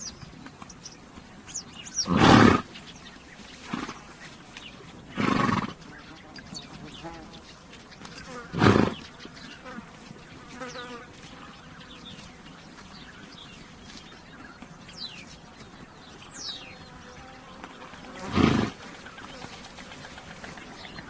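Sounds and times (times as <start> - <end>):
flies buzzing: 1.5 - 14.0, 15.2 - 21.0.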